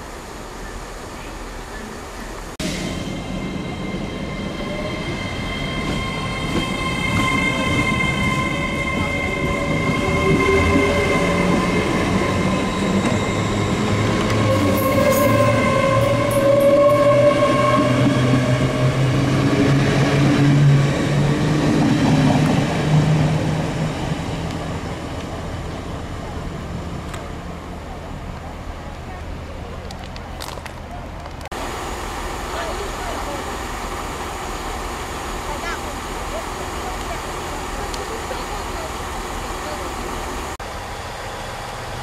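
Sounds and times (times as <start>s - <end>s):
train passing with high whine: 0.0s - 30.6s, 31.6s - 42.0s.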